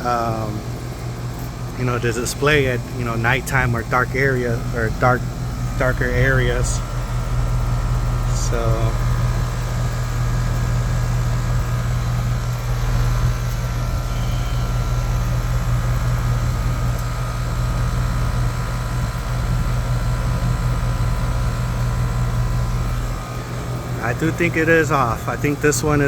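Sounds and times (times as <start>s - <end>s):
air conditioning unit humming: 0.0s - 26.0s.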